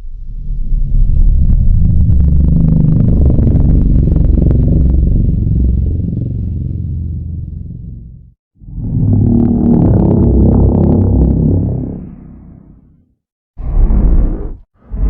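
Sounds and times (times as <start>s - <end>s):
deep monster rumbling with crackling: 0.1s - 15.0s.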